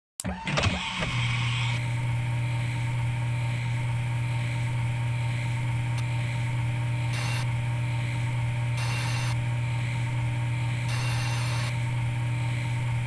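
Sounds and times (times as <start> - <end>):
milling machine humming: 0.8 - 13.0.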